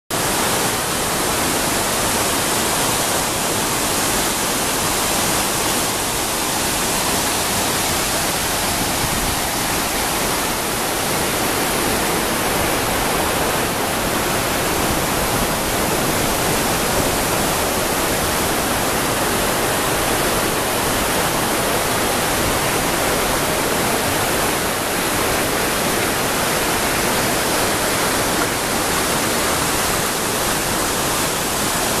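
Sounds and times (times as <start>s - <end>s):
waterfall rushing: 0.1s - 32.0s.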